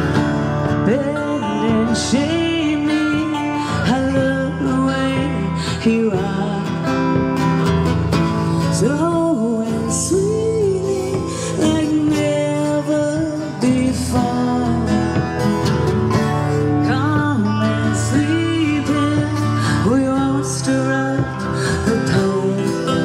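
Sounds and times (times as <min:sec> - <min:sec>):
woman singing into microphone: 0:00.0 - 0:07.6, 0:08.4 - 0:23.0
acoustic guitars: 0:00.0 - 0:23.0.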